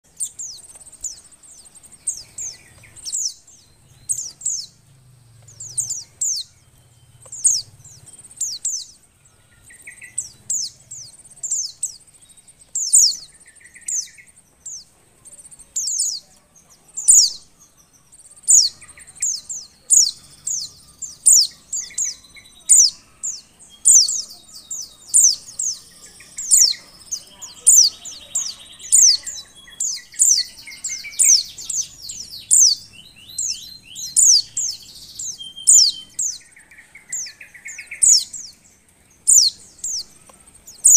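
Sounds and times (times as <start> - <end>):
bird high chirps: 0.0 - 40.9.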